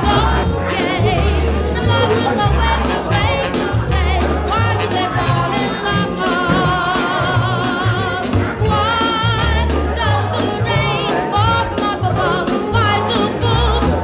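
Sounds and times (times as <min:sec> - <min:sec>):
person singing wavering melody: 0:00.0 - 0:14.0
steady bass line: 0:00.0 - 0:14.0.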